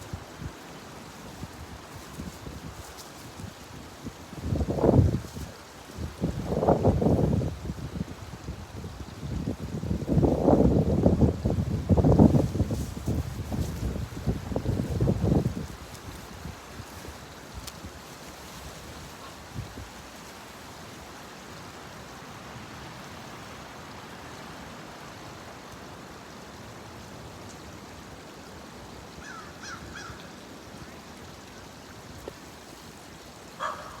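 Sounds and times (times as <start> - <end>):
wind: 0.0 - 34.0.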